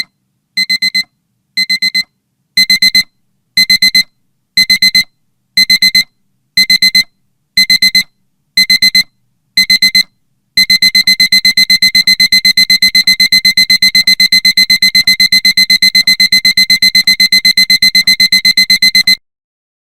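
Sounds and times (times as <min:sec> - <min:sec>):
digital alarm clock beeping: 0:00.0 - 0:19.2.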